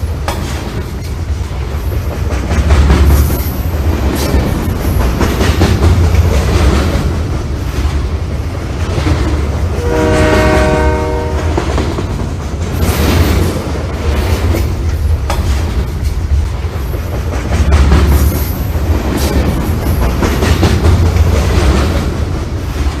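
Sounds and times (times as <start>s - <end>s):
train rumbling: 0.0s - 23.0s
wheels clacking over rail joints: 0.0s - 23.0s.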